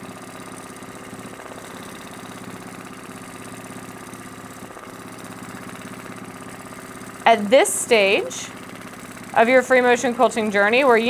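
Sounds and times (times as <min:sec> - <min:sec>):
sewing machine running: 0:00.0 - 0:11.0.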